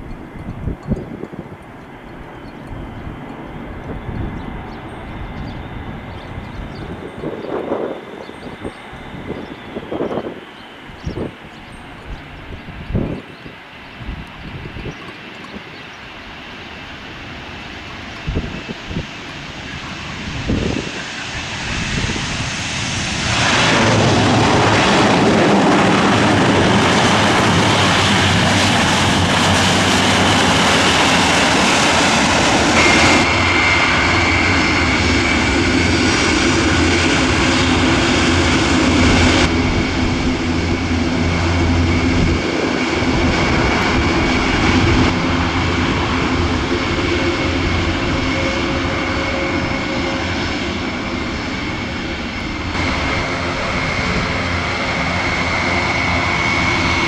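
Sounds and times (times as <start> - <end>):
low drone: 0.0 - 57.0
steady whine: 0.0 - 57.0
turboprop aircraft engines: 0.0 - 57.0.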